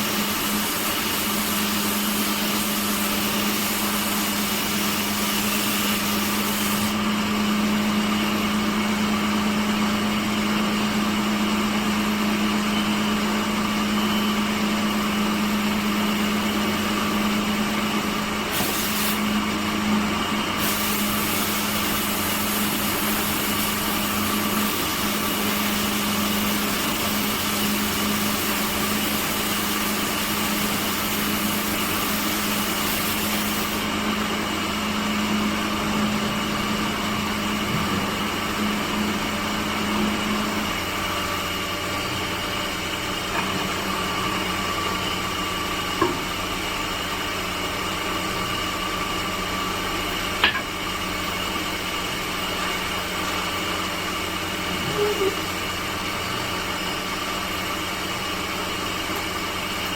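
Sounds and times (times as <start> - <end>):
woodworking machine humming: 0.0 - 59.9.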